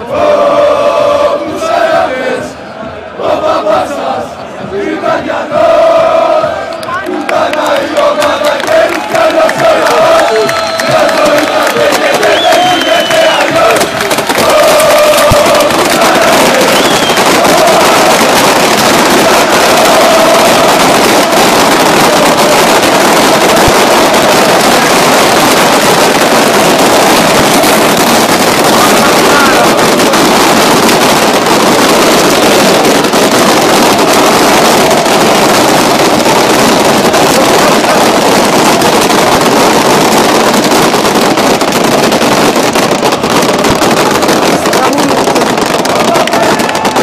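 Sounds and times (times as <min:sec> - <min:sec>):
crowd chanting: 0:00.0 - 0:41.6, 0:45.7 - 0:47.0.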